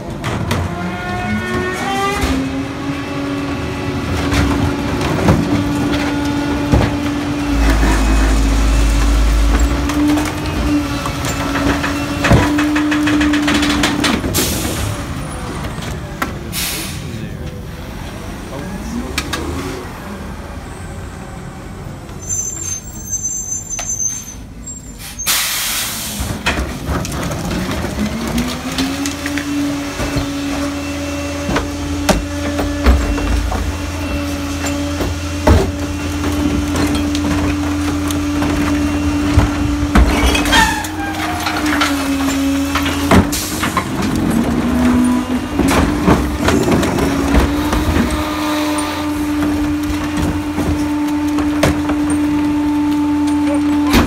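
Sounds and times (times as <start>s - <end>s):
carts banging and clattering: 0.0s - 16.6s, 26.0s - 54.0s
truck engine droning: 0.0s - 54.0s.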